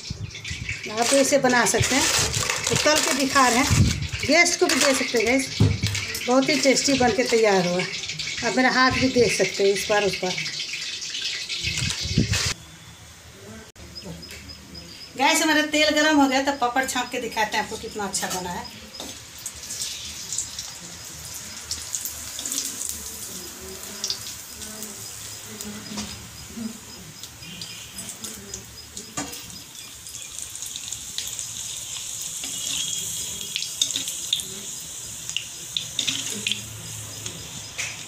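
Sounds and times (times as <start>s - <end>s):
food deep-frying in hot oil: 0.0s - 12.6s, 14.2s - 38.0s.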